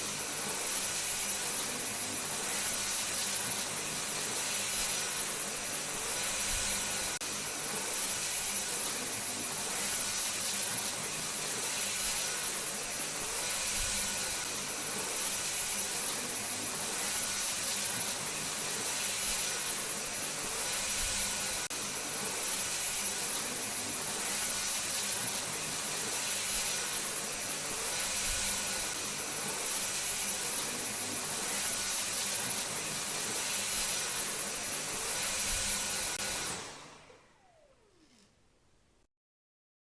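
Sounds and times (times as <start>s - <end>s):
vacuum cleaner running: 0.0s - 38.6s.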